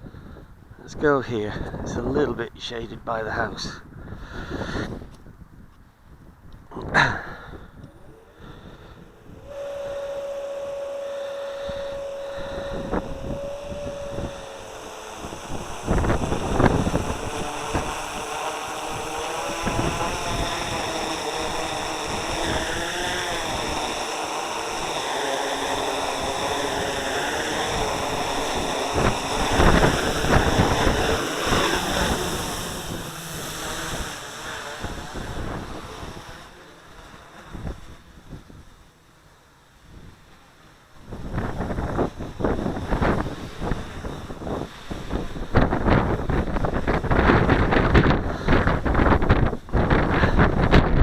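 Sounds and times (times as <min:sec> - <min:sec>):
wind buffeting microphone: 0:00.0 - 0:38.9, 0:41.0 - 0:51.0
drone motors whining: 0:06.7 - 0:50.9.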